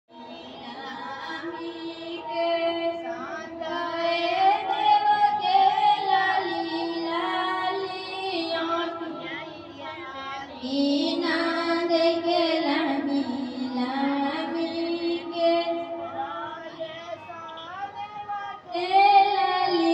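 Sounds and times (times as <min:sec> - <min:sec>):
woman singing: 0:00.6 - 0:10.0, 0:10.6 - 0:16.2, 0:18.7 - 0:19.9.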